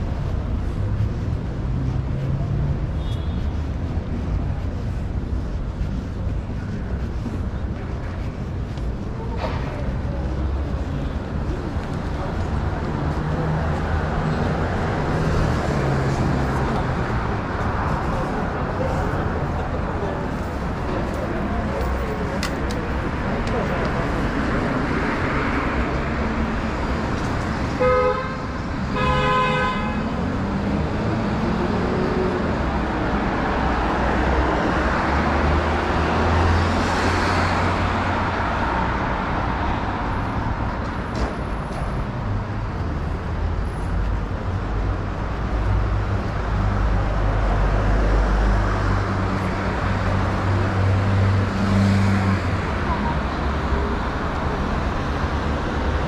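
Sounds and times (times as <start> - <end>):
passing vehicles: 0.0 - 56.0.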